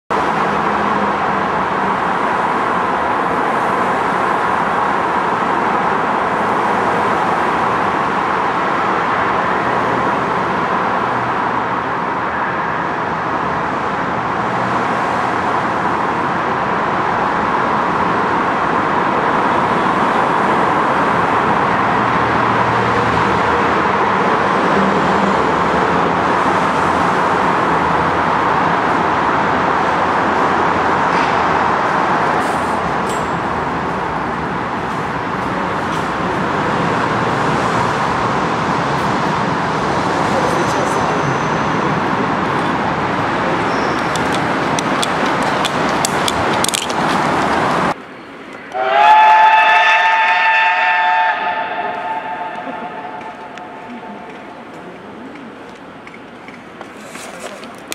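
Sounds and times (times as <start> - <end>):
highway traffic passing: 0.1 - 57.9.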